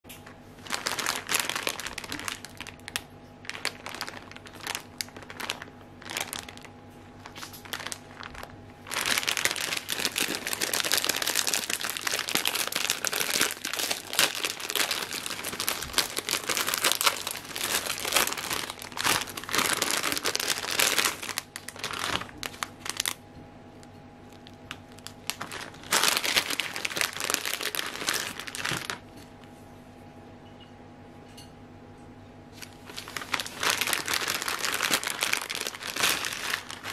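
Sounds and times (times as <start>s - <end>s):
plastic packet crinkling: 0.5s - 23.2s, 24.3s - 29.4s, 32.6s - 36.9s.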